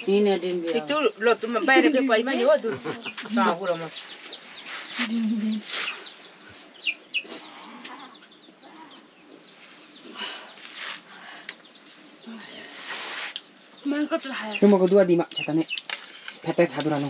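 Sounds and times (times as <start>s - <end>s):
chickens clucking and peeping: 0.0s - 17.0s.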